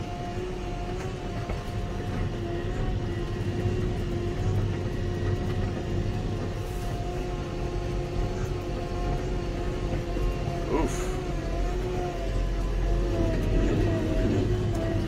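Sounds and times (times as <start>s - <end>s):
tractor engine drone with whine: 0.0s - 15.0s
tyres rumbling on gravel road: 0.0s - 15.0s.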